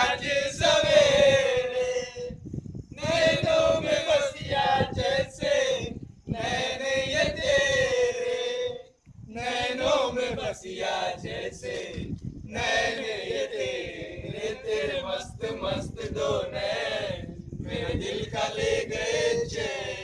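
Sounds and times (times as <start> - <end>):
young men singing together: 0.0 - 2.4, 3.0 - 20.0.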